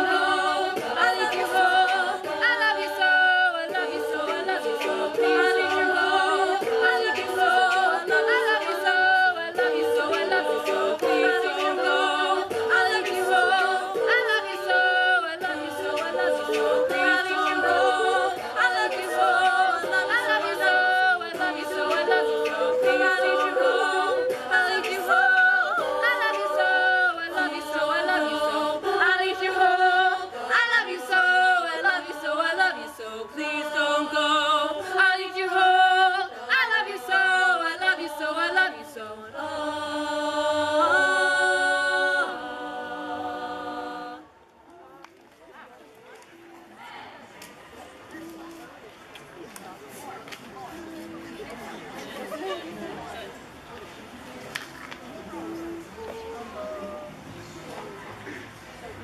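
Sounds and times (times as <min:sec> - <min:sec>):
women singing a cappella: 0:00.0 - 0:44.6, 0:49.6 - 0:59.0.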